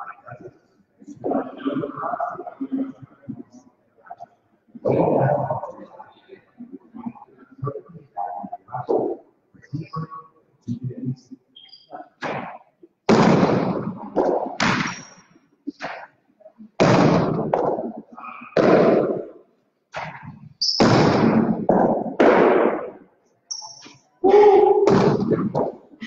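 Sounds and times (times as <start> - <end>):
long echo in hard-walled court: 0.0 - 6.4, 11.0 - 26.0.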